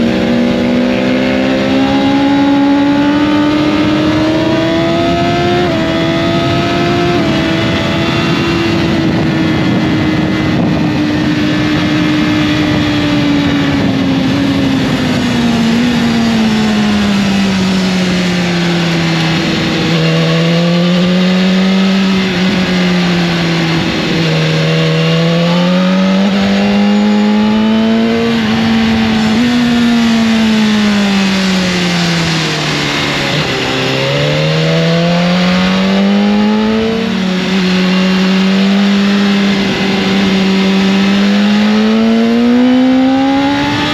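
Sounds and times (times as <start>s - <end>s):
motorcycle engine revving: 0.0s - 43.9s
wind noise: 0.0s - 43.9s.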